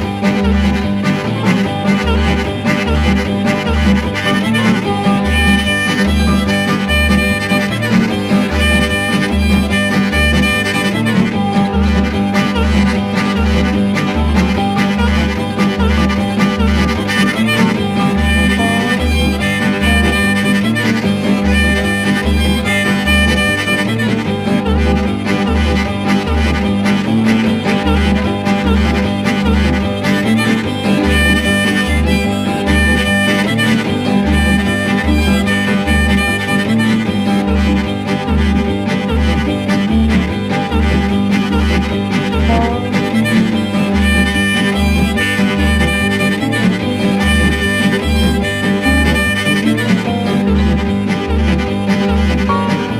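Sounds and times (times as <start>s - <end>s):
instrumental background music: 0.0s - 52.9s.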